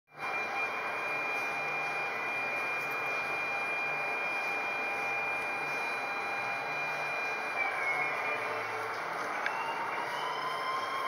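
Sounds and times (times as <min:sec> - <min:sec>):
thin high whine: 0:00.1 - 0:11.0.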